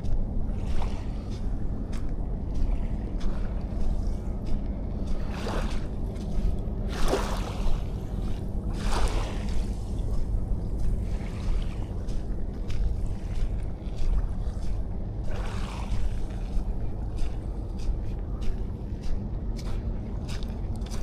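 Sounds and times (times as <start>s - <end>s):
wind rumble on microphone: 0.0s - 21.0s
small waves washing on sand: 0.5s - 21.0s.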